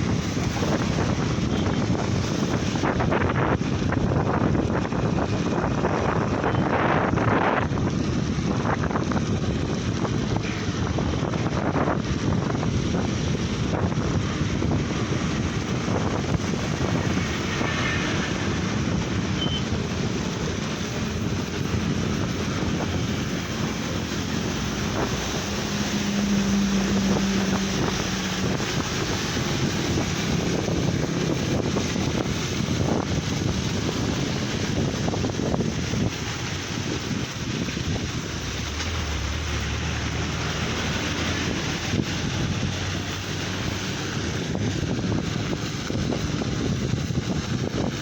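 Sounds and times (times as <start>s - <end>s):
vehicle rumble: 0.0s - 48.0s
wind buffeting microphone: 0.0s - 48.0s.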